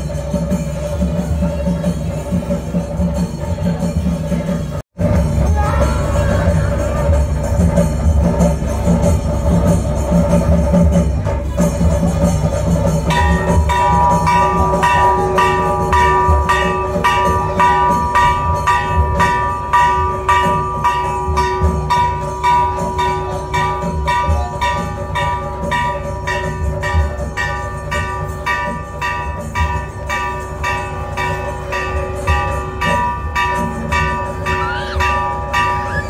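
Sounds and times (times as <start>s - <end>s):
temple bells ringing rapidly: 0.0s - 36.0s.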